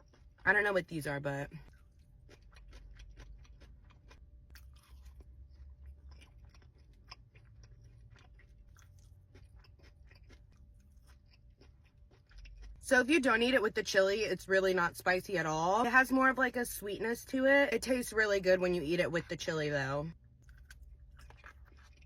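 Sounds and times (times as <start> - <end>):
close-mic chewing: 0.0 - 16.4, 17.4 - 22.0.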